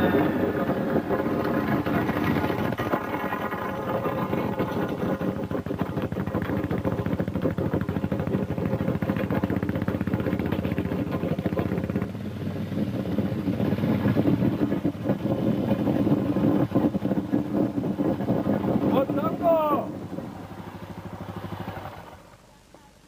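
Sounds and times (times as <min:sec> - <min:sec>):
vehicle engine running: 0:00.0 - 0:22.8.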